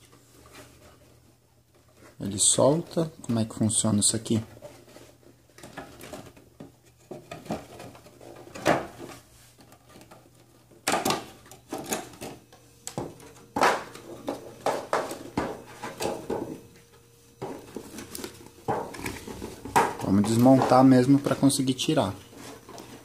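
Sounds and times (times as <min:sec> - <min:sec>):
plastic and cardboard packaging crackling: 0:00.0 - 0:23.0.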